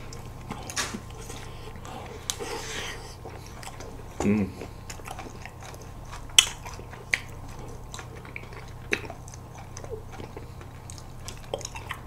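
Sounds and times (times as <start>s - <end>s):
crunchy biting and chewing: 0.0s - 12.0s.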